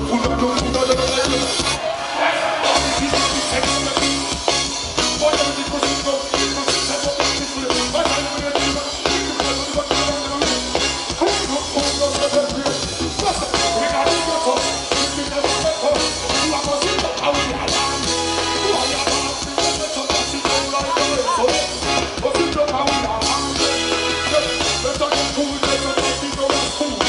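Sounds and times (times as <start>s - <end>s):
live reggae music: 0.0s - 27.0s
drum-kit beat: 2.5s - 27.0s.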